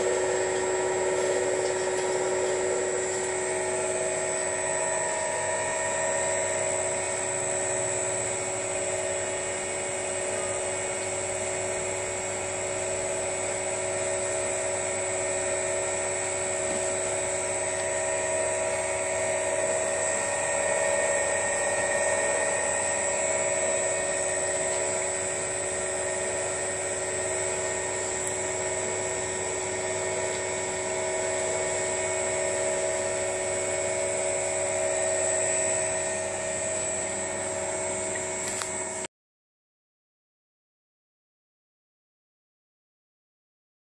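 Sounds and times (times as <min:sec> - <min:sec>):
oil press motor whine: 0:00.0 - 0:39.1.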